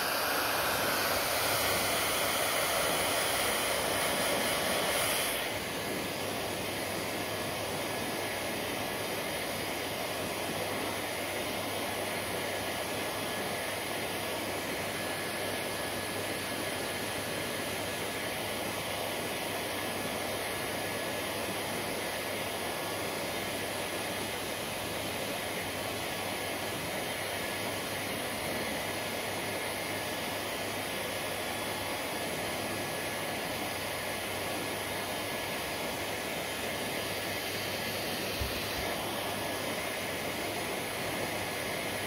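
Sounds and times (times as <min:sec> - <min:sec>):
hair dryer running: 0:00.0 - 0:42.0.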